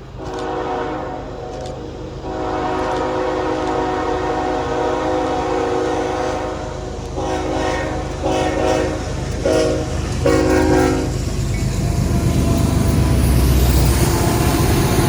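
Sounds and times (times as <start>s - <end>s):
train rumble: 0.0s - 15.0s
locomotive air horn: 0.2s - 11.2s, 11.8s - 15.0s.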